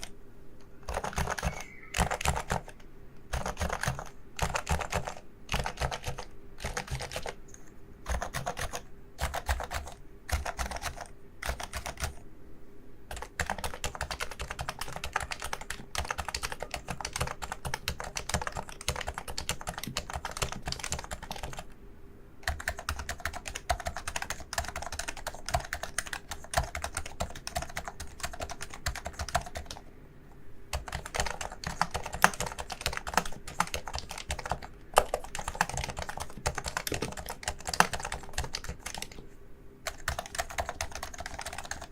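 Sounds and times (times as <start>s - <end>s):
keyboard typing: 0.8s - 12.2s, 13.1s - 21.7s, 22.4s - 29.9s, 30.7s - 39.2s, 39.8s - 41.9s.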